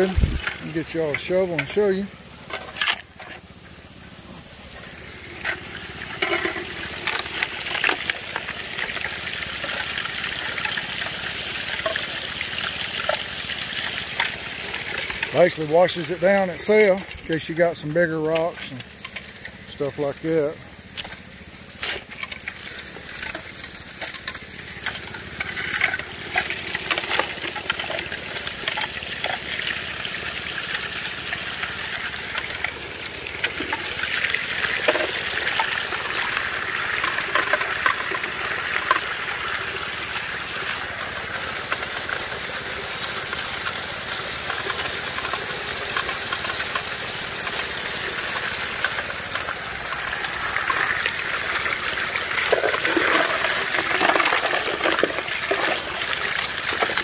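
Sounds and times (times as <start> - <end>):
gravel rattling in a drum: 0.0 - 57.0.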